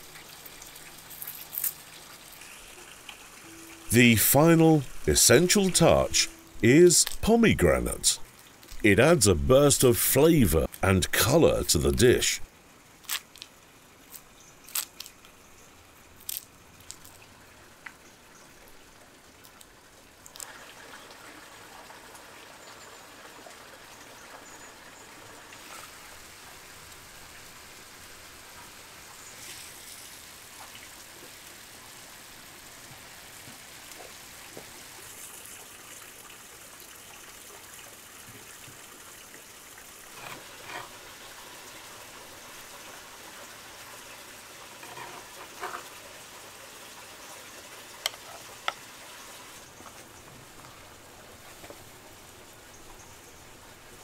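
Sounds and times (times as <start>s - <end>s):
water trickling: 0.0s - 3.9s, 8.2s - 8.8s, 12.5s - 54.0s.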